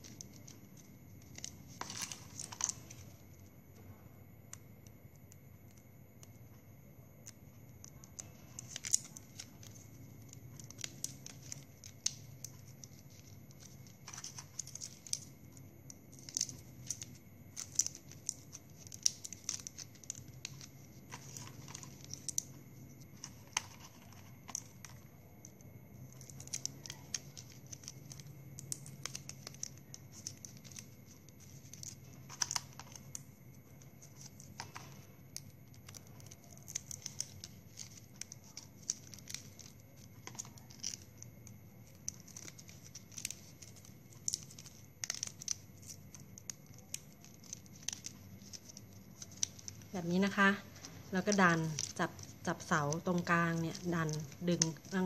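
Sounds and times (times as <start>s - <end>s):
plastic straws clicking and rustling: 0.0s - 3.5s, 4.5s - 55.0s.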